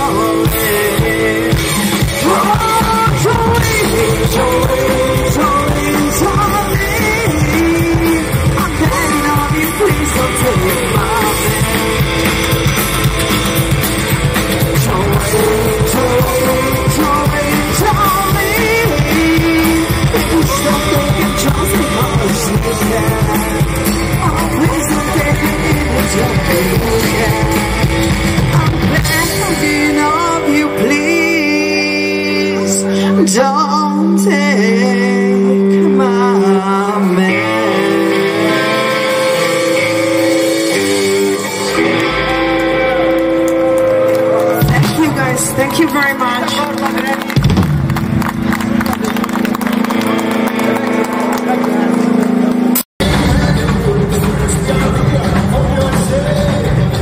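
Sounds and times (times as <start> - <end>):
person singing: 0.0 - 47.2, 53.0 - 57.0
rock and roll band playing: 0.0 - 57.0.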